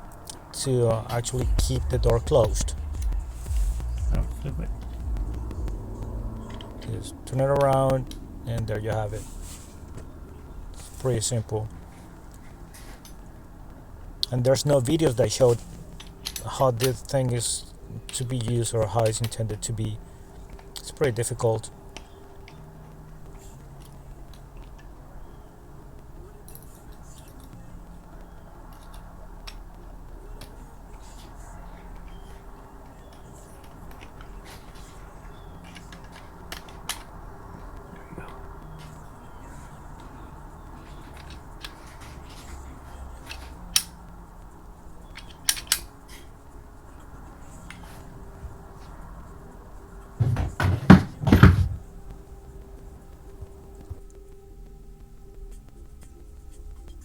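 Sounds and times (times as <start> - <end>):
faint low hum: 0.0 - 57.0
light clicks and handling noises: 0.0 - 57.0
low background noise: 0.0 - 57.0.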